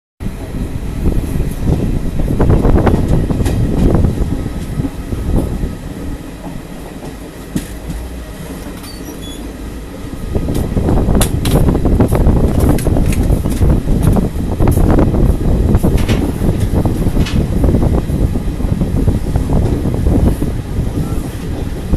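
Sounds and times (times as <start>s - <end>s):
wheels rumbling on rail: 0.2s - 21.9s
wind: 0.2s - 21.9s.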